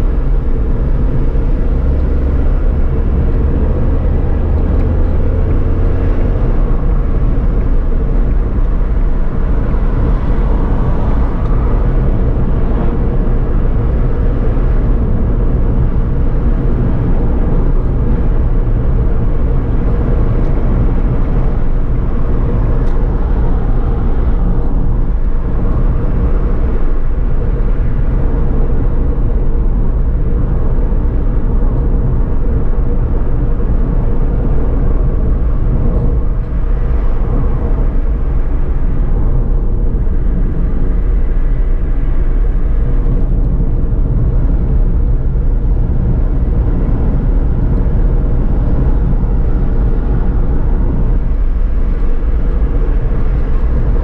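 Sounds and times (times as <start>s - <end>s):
car engine and tyre road noise: 0.0s - 54.0s.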